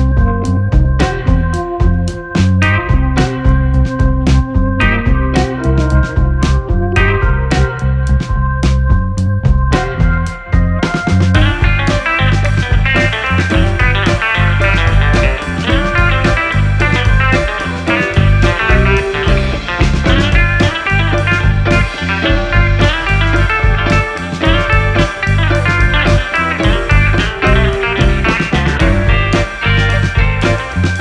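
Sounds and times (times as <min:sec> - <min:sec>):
rock music with electric guitar: 0:00.0 - 0:31.0.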